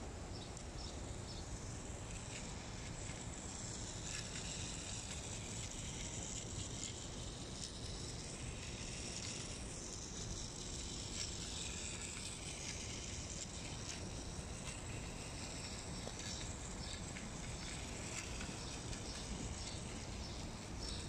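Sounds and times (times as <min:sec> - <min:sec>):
toy train running on plastic track: 0:00.6 - 0:21.0
faint irregular clicks: 0:02.0 - 0:21.0.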